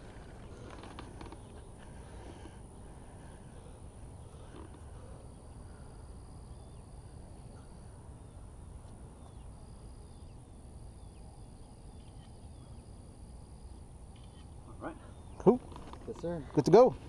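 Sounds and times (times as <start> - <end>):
shrill insect trill: 0.0 - 16.8.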